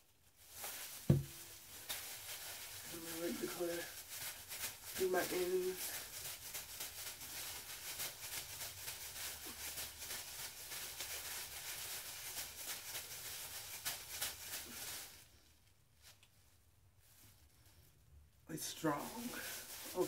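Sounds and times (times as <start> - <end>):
plastic gloves crinkling in hair: 0.0 - 20.0.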